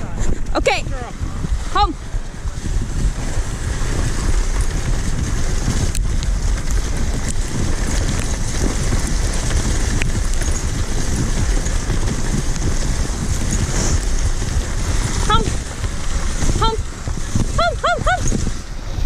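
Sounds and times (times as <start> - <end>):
sled rushing over snow: 0.0 - 19.0
wind buffeting microphone: 0.0 - 19.0.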